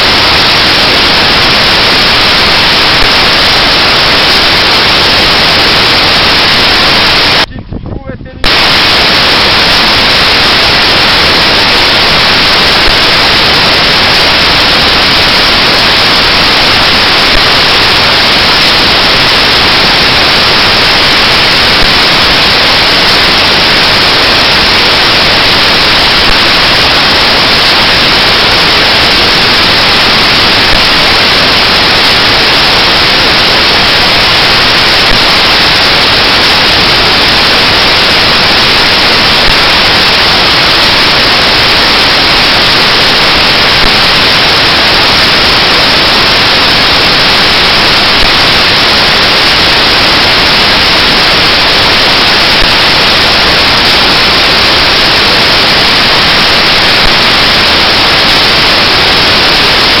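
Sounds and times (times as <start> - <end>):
static hiss: 0.0 - 7.6, 8.3 - 60.0.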